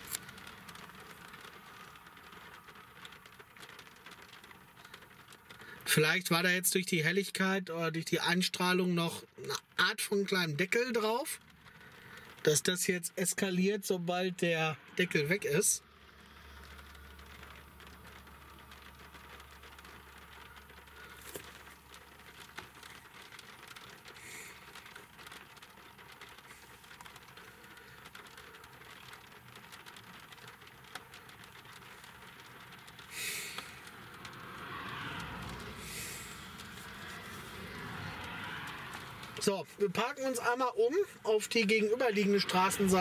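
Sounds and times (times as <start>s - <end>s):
light rain on car roof: 0.0s - 43.0s.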